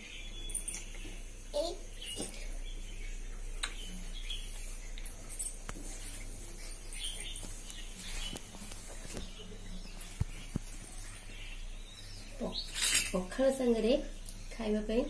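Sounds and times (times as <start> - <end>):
faint bird chirps: 0.0 - 14.8.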